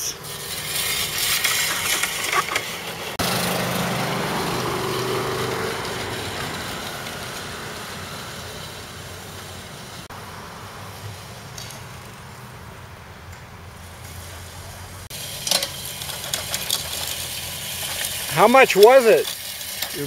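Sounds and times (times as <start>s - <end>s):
reel mower blades whirring: 0.0s - 12.6s, 13.3s - 20.0s.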